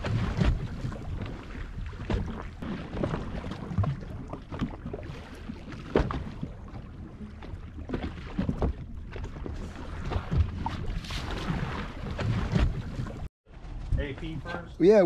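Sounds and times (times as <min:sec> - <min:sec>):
knocks and splashes: 0:00.0 - 0:13.3
water noise: 0:00.0 - 0:13.6
boat engine low rumble: 0:00.0 - 0:15.0
wind: 0:00.0 - 0:15.0.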